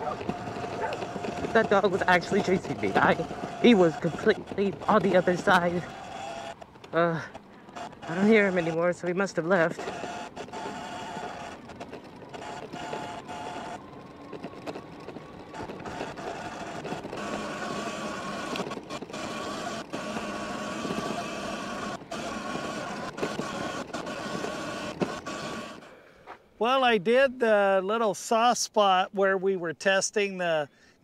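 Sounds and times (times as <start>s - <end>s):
electric motor whine: 0.0s - 26.0s
wind and dirt-track noise: 0.0s - 27.3s.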